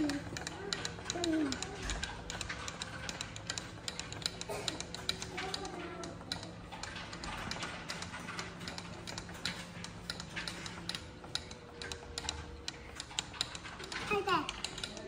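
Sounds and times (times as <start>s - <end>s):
small balls clicking through tracks: 0.0s - 15.0s.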